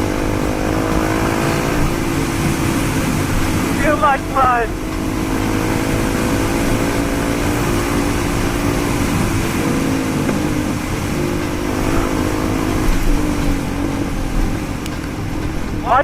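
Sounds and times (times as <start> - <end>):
wind on microphone: 0.0 - 15.9
motorcycle engine running: 0.0 - 16.0.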